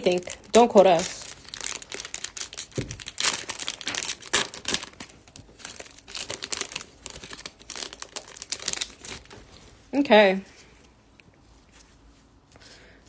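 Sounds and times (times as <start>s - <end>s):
cards and plastic wrapping rustling: 0.0s - 10.8s.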